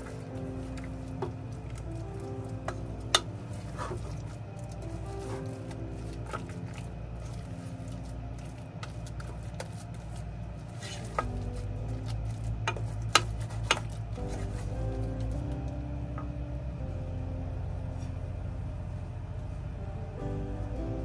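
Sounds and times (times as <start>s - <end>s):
low hum: 0.0s - 21.0s
soft background music: 0.0s - 21.0s.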